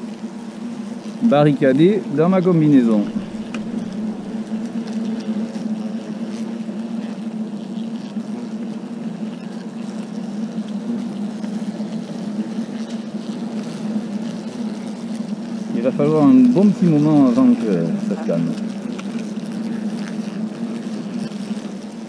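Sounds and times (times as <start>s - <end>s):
hornets buzzing: 0.0s - 22.0s.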